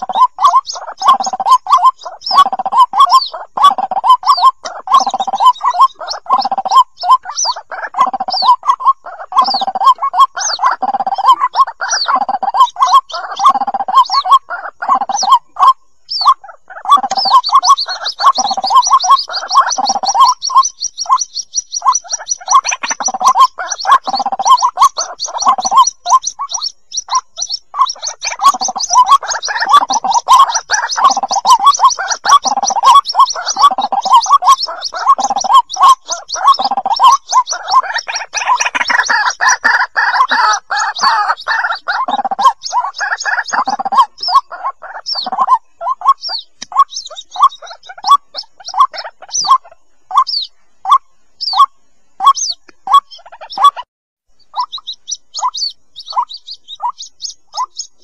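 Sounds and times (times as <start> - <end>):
chicks calling: 0.0 - 58.0.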